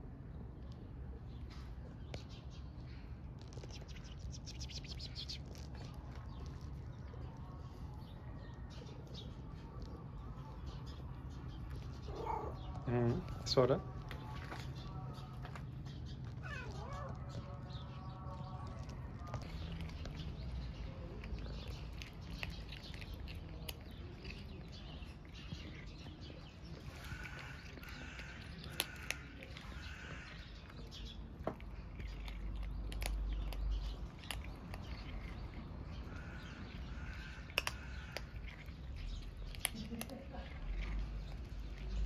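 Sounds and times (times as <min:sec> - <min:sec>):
kittens crunching dry food: 0:00.4 - 0:42.0
bird calls: 0:01.4 - 0:06.6, 0:10.4 - 0:42.0.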